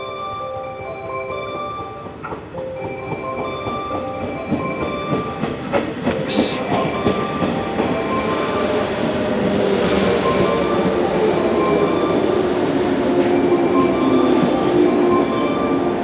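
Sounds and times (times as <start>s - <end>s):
chiming bell-like melody: 0.0s - 16.0s
electric train moving: 0.0s - 16.0s.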